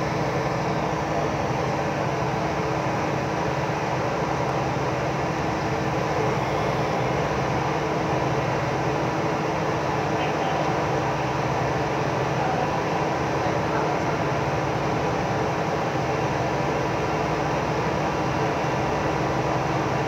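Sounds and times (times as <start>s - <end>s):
boat engines droning: 0.0s - 20.0s.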